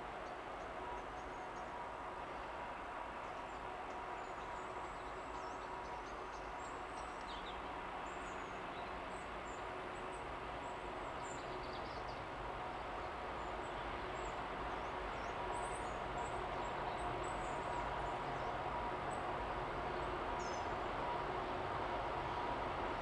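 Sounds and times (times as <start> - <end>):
distant diesel locomotive hum: 0.0 - 23.0.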